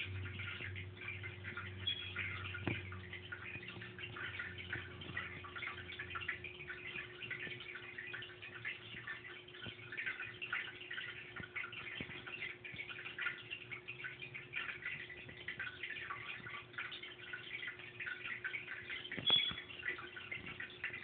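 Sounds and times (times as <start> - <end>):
water trickling and dripping: 0.0 - 21.0.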